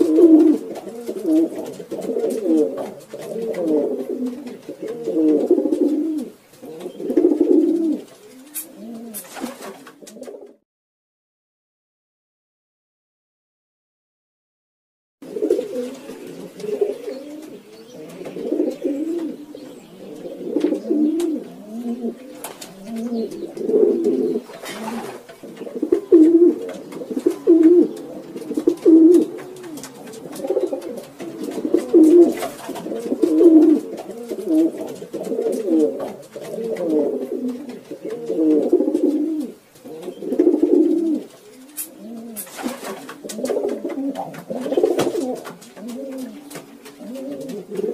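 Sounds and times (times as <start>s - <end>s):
pigeons cooing: 0.0s - 10.6s, 15.2s - 47.9s.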